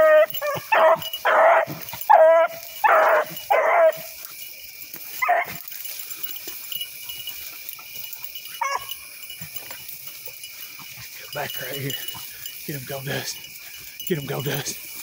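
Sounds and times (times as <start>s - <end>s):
hound baying: 0.0s - 15.0s.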